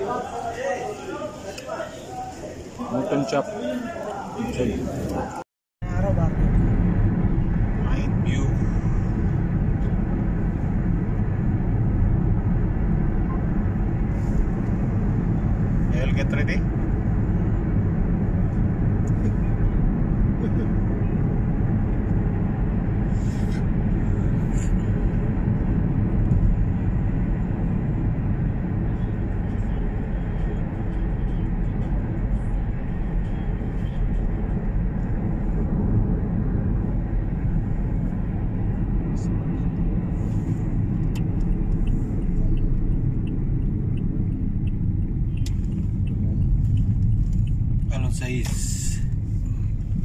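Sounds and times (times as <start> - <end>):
car road and engine noise: 0.0 - 50.0.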